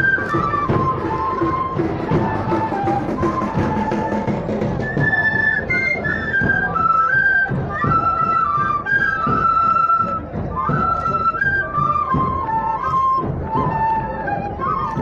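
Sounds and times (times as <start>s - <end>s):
flutes playing a melody: 0.0s - 15.0s.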